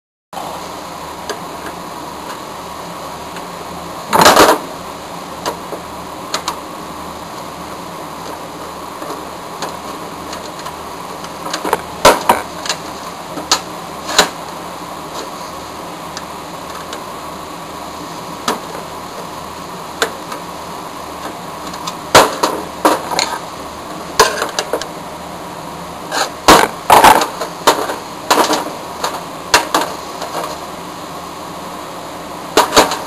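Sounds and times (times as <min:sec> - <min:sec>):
steady background hiss: 0:00.4 - 0:33.0.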